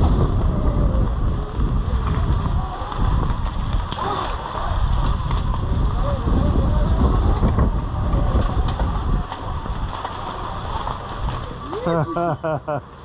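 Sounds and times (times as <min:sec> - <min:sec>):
wind buffeting microphone: 0:00.0 - 0:11.6
electric dirt bike rumble and rattle: 0:00.0 - 0:13.0.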